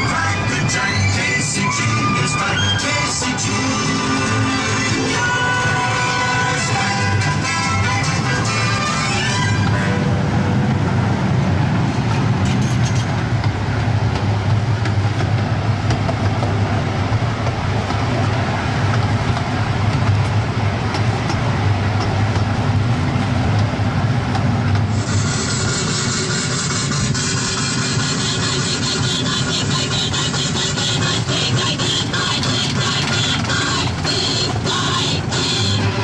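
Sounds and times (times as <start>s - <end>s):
small train rumbling on track: 0.0s - 36.0s.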